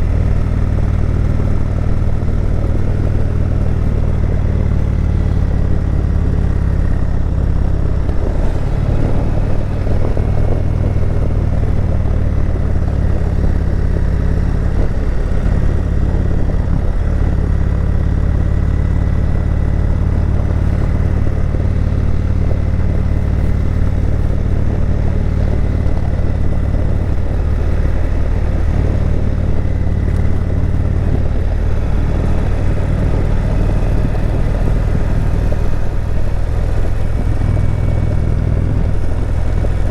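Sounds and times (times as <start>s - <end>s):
motorcycle engine droning: 0.0s - 39.9s
road noise: 0.0s - 39.9s.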